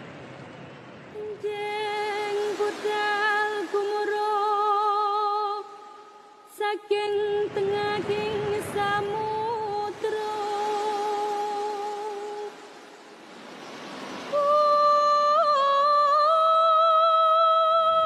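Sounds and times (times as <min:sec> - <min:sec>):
soft rushing noise: 0:00.0 - 0:16.4
woman singing with vibrato: 0:01.2 - 0:12.7, 0:14.2 - 0:18.0.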